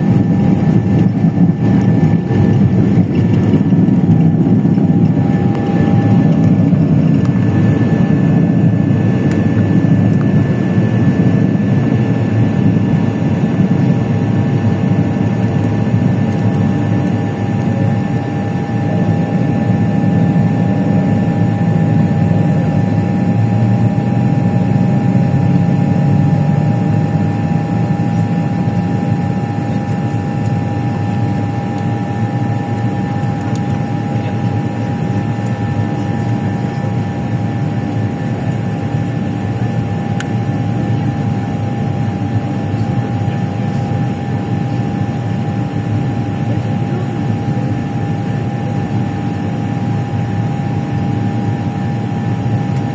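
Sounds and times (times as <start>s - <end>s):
airplane engine drone: 0.0s - 52.9s.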